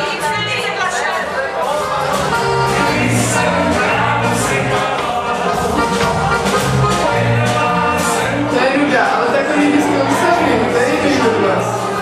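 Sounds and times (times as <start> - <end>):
band playing dance music: 0.0 - 12.0
walking bass line: 1.8 - 12.0.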